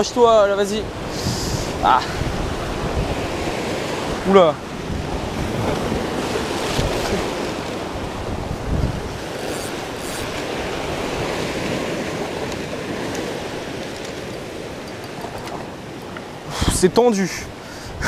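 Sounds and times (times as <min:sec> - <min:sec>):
wind buffeting microphone: 0:00.0 - 0:18.0
surf breaking over rocks: 0:00.7 - 0:17.2.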